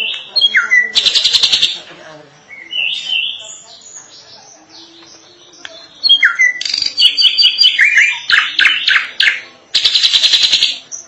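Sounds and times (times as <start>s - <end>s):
drongo singing: 0.0s - 11.0s.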